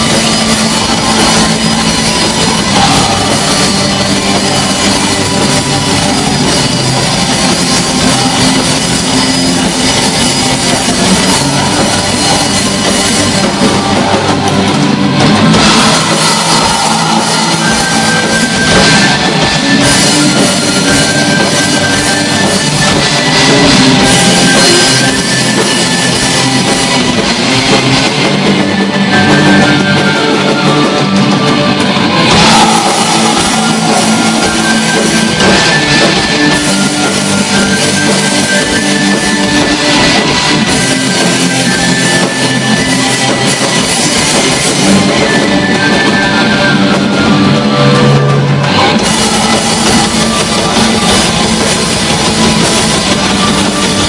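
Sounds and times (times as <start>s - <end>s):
distorted electric guitars: 0.0s - 54.0s
drum kit playing: 0.0s - 54.0s.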